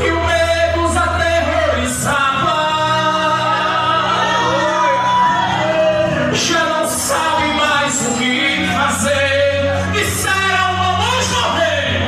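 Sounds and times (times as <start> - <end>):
person singing long notes: 0.0 - 12.0.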